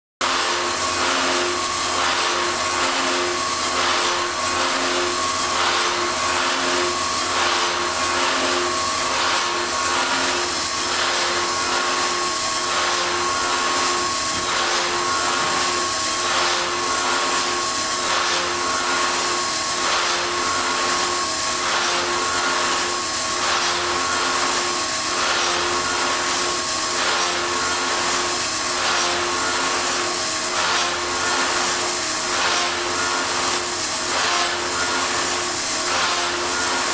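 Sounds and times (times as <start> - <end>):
woodworking machine whining: 0.2 - 36.9.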